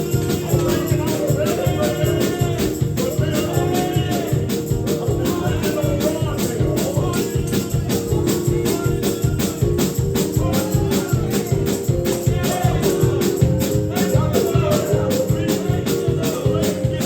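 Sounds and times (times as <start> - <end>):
keyboard chords: 0.0 - 17.0
people singing: 0.0 - 17.0
shaker and tambourine beat: 0.0 - 17.0.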